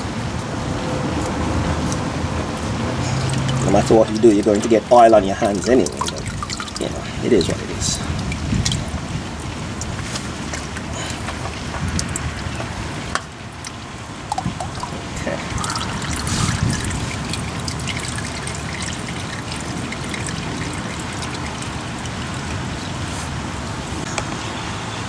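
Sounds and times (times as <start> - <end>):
oil trickling and dribbling: 1.9 - 24.1.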